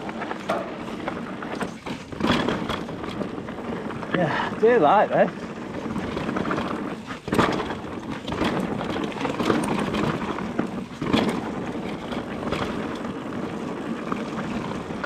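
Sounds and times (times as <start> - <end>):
bike knocks and rattles: 0.0 - 15.0
bike tyres rolling on dirt: 0.0 - 15.0.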